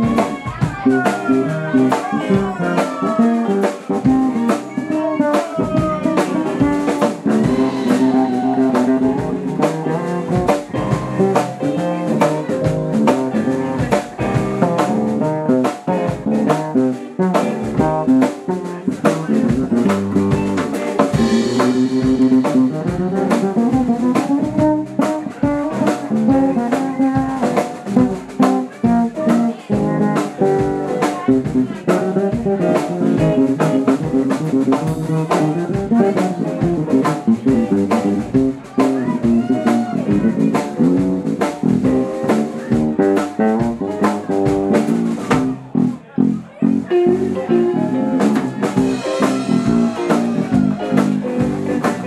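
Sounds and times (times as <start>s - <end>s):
rockabilly guitar melody: 0.0s - 52.0s
steady drum beat: 0.0s - 52.0s
walking bass line: 0.0s - 52.0s.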